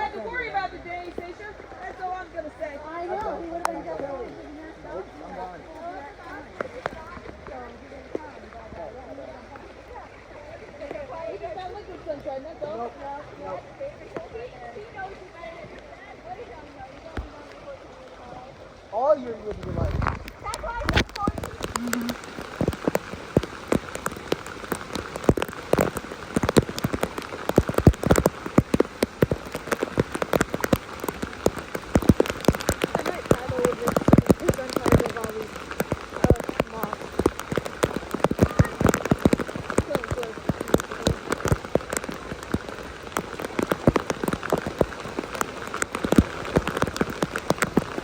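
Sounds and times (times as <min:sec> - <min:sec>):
rain hiss: 0:00.0 - 0:48.0
raindrops hitting close by: 0:00.0 - 0:48.0.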